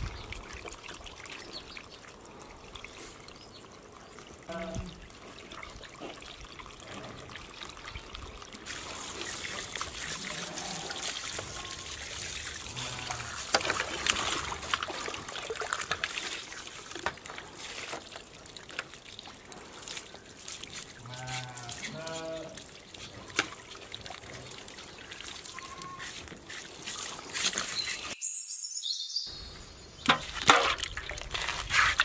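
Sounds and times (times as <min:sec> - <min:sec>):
water trickling into metal tray: 0:00.0 - 0:28.0
hose water splashing: 0:00.0 - 0:28.2, 0:29.9 - 0:32.0.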